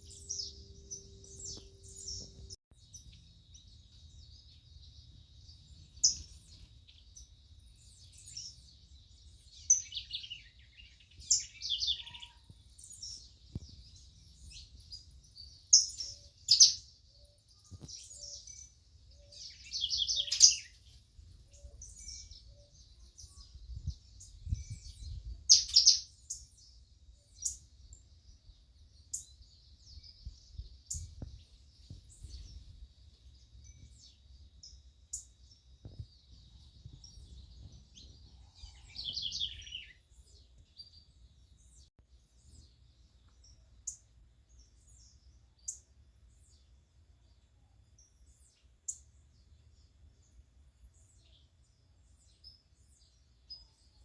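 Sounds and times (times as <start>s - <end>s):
birds chirping and singing: 0.0s - 32.8s, 33.4s - 45.8s.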